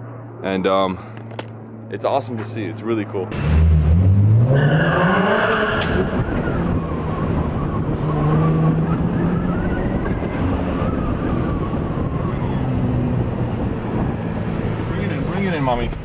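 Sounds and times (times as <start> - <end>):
car engine droning: 0.0 - 16.0
tyre and road noise: 0.0 - 16.0.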